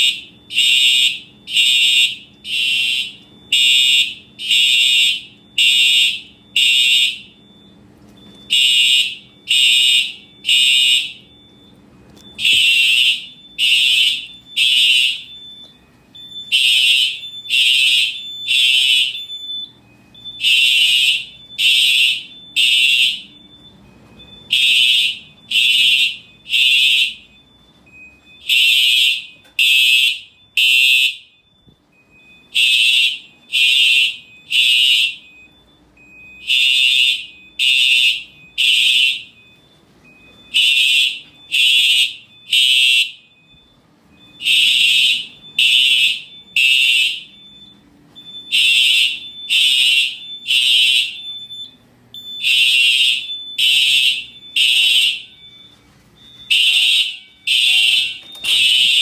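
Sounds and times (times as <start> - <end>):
fire alarm horn blasts: 0.0 - 59.0.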